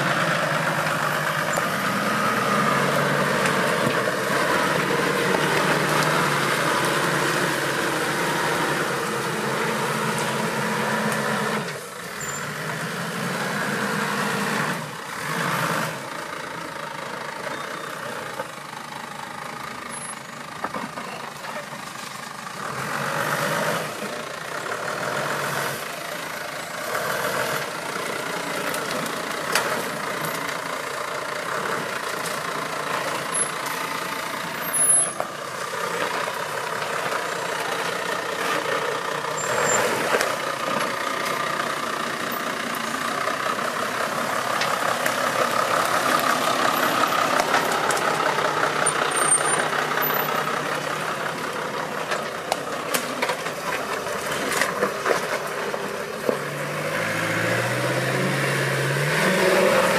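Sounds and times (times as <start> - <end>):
vehicle engine running under load: 0.0 - 59.9.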